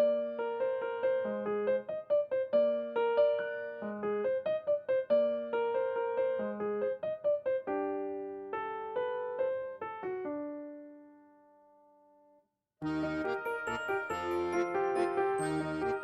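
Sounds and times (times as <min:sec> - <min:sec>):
piano music: 0:00.0 - 0:12.0, 0:12.8 - 0:16.0.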